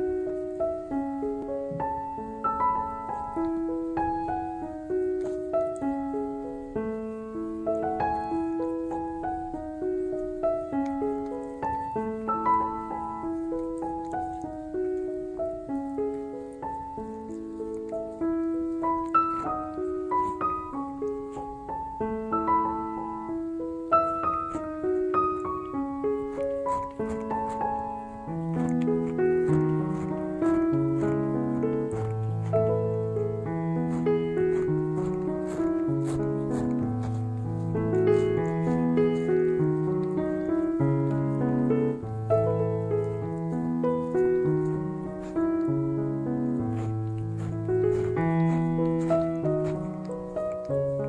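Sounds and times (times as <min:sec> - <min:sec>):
soft slow piano melody: 0:00.0 - 0:51.0.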